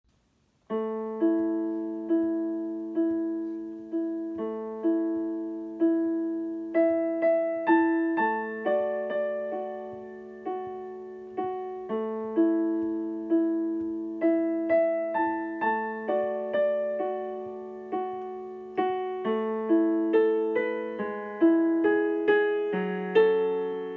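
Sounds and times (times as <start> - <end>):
slow gentle piano: 0.1 - 23.9.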